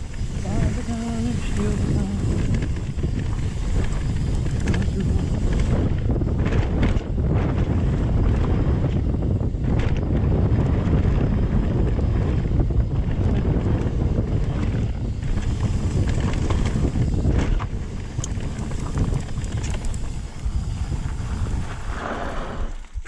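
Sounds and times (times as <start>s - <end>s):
bike clicks: 0.0s - 23.0s
bike tyre rumble on dirt: 0.0s - 23.0s
wind buffeting microphone: 0.0s - 23.0s.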